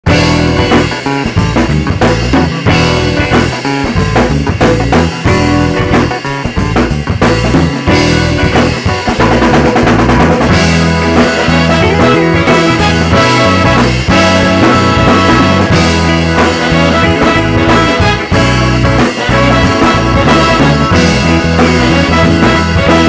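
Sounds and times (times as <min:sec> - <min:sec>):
bass line: 0:00.0 - 0:23.0
drum kit beat: 0:00.0 - 0:23.0.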